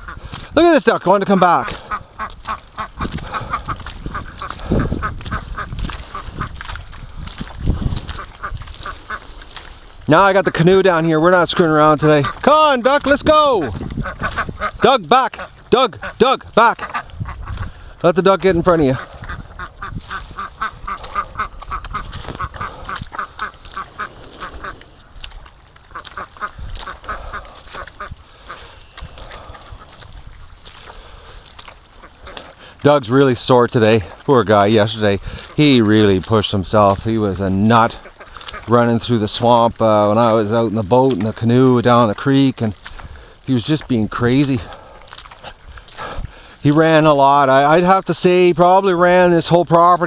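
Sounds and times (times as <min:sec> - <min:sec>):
ducks quacking: 0:00.0 - 0:50.0.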